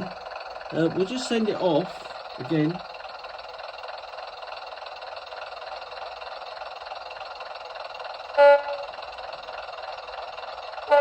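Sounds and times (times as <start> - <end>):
model train engine sound from speaker: 0.0 - 11.0.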